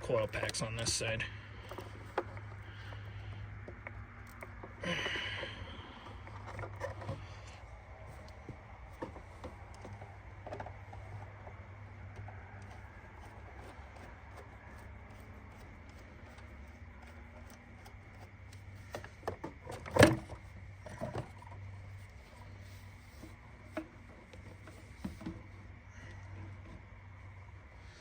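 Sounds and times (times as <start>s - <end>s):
engine parts knocking and rubbing: 0.0s - 28.0s
steady low hum: 0.0s - 28.0s.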